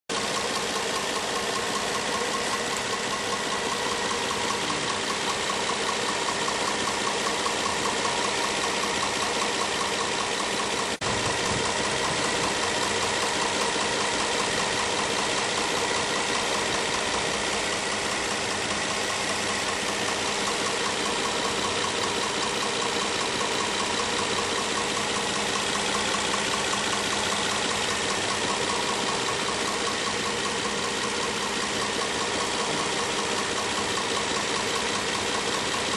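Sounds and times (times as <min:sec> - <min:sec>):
car engine idling: 0:00.1 - 0:35.9
engine knocking: 0:00.1 - 0:35.9.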